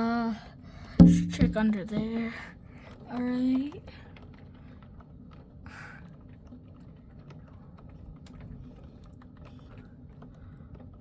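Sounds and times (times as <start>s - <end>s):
faint rainstorm rumble: 0.0s - 11.0s.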